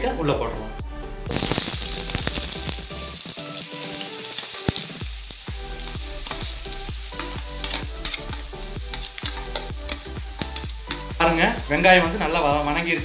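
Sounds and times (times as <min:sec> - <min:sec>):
onions sizzling in hot oil: 0:01.3 - 0:13.0.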